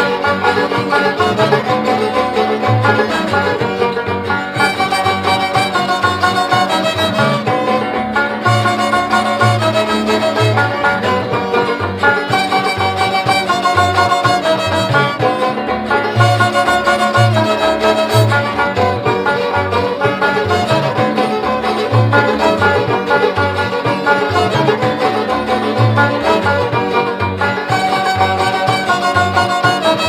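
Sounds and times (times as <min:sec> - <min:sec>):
steady bass line: 0:00.0 - 0:30.0
string instruments melody: 0:00.0 - 0:30.0.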